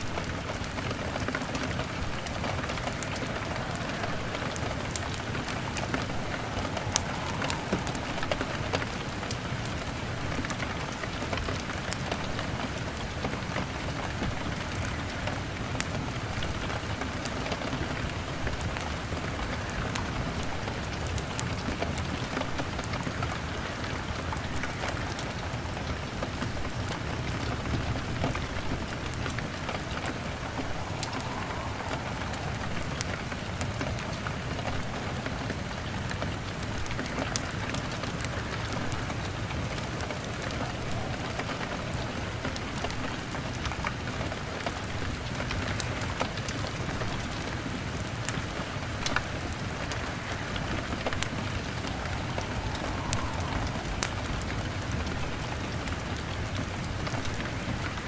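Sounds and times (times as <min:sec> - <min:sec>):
rain pattering on window: 0:00.0 - 0:58.0
wood fire crackling: 0:00.0 - 0:58.0.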